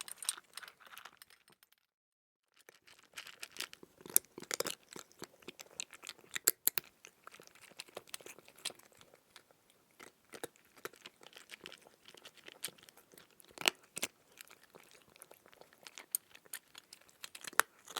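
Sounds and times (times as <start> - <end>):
cat crunching and chewing food: 0.0 - 1.6, 2.5 - 17.9.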